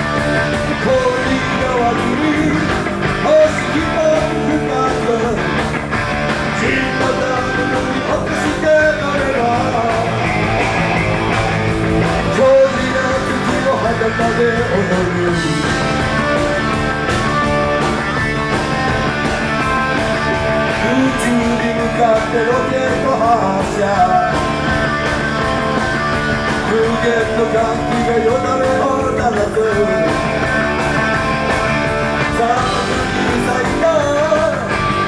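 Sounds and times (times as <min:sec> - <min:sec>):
blues-rock band playing: 0:00.0 - 0:35.0
electric guitar lead lines: 0:00.0 - 0:35.0.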